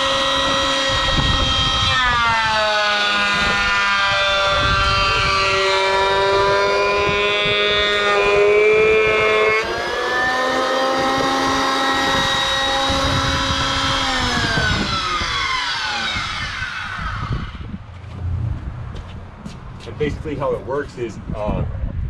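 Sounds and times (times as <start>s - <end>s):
planer motor high whine: 0.0s - 19.0s.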